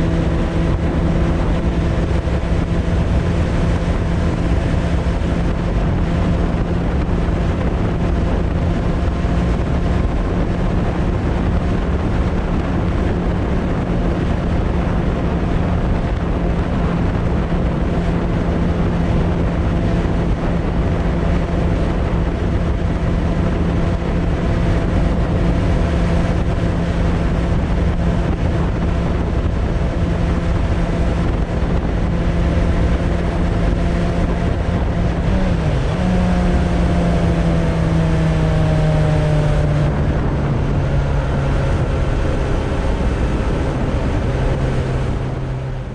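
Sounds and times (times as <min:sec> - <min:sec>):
motorcycle engine cruising: 0:00.0 - 0:45.9
wind rushing over microphone: 0:00.0 - 0:45.9.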